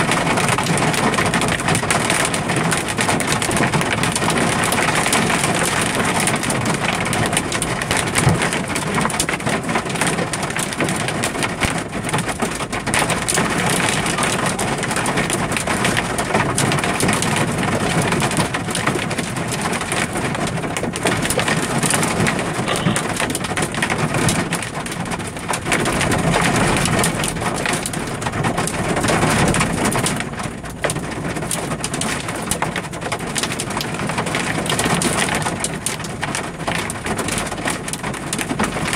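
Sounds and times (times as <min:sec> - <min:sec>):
hail and rain pelting a vehicle: 0:00.0 - 0:38.9.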